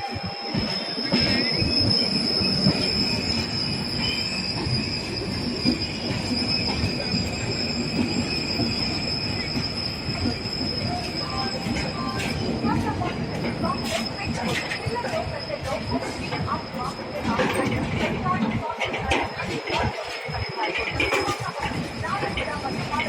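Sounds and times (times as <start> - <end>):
high-pitched wheel squeal: 0.0 - 23.0
train wheels rumbling: 0.0 - 23.0.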